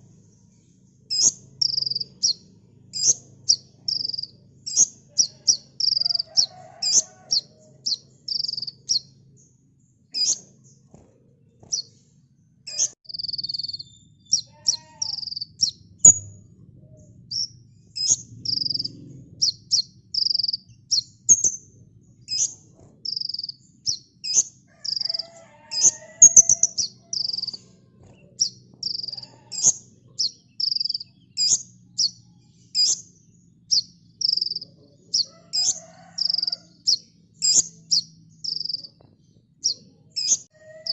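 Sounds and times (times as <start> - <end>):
bird singing high chirps and trills: 0.0 - 40.9.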